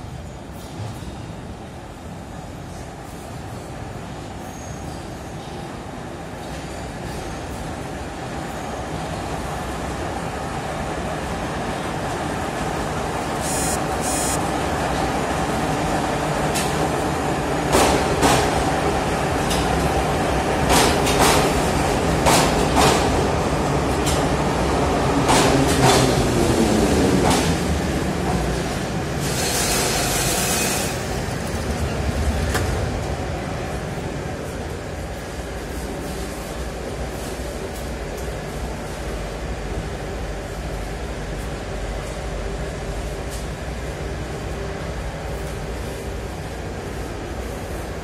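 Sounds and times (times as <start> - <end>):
train rumbling and braking: 0.0 - 48.0.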